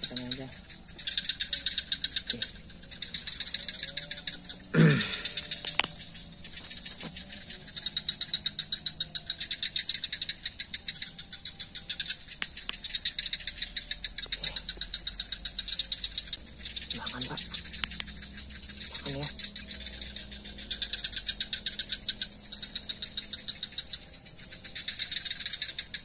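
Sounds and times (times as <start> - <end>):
night insects chirping: 0.0 - 26.0
steady high hum: 0.0 - 26.0.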